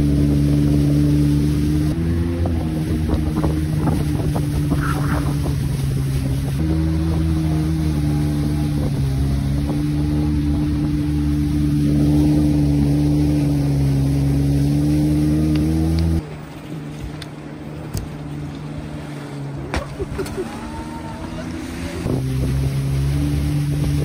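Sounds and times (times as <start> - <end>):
jet ski engine running: 0.0 - 24.0
water rushing: 0.0 - 24.0.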